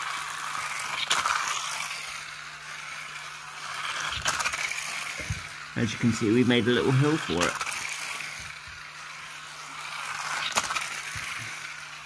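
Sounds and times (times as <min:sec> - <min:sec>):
toy car clicking on track: 0:00.0 - 0:12.0
toy car motor whirring: 0:00.0 - 0:12.0.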